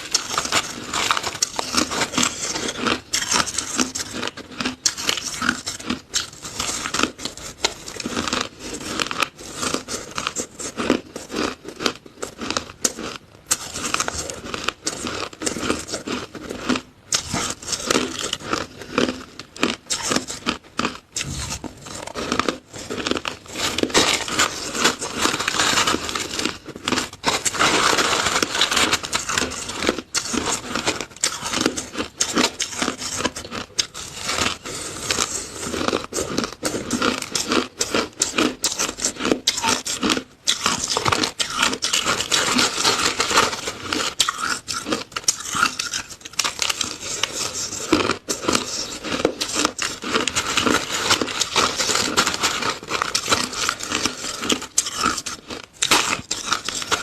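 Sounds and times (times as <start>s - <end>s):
crunching and chewing shaved ice: 0.0s - 57.0s.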